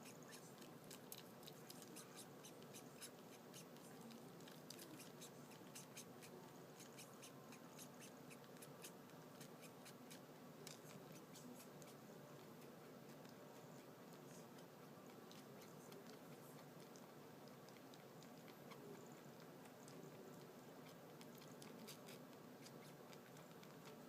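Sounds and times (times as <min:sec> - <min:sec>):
quiet hiss: 0:00.0 - 0:24.0
cat tongue licking fur: 0:00.1 - 0:24.0.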